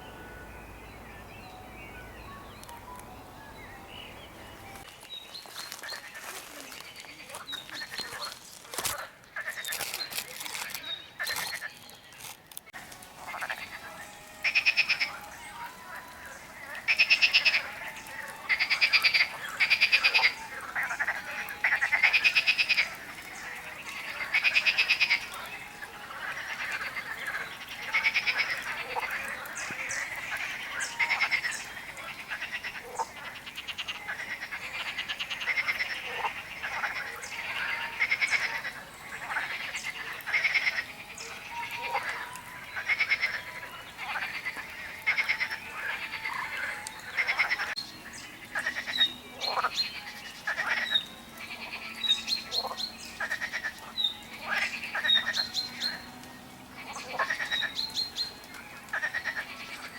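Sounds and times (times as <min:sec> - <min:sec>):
frogs croaking: 0:00.0 - 0:59.9.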